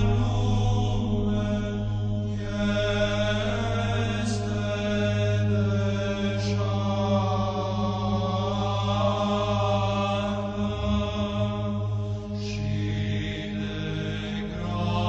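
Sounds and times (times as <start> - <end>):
low held drone: 0.0 - 15.0
men chanting: 0.0 - 15.0.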